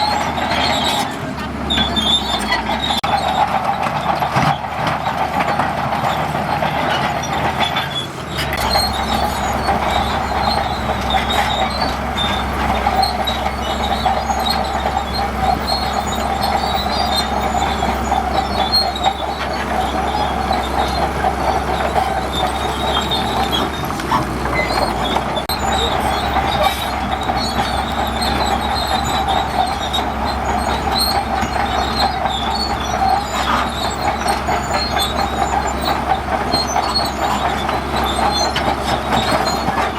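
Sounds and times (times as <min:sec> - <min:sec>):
bulldozer engine rumbling: 0:00.0 - 0:39.9
metal track clanking: 0:00.0 - 0:39.9.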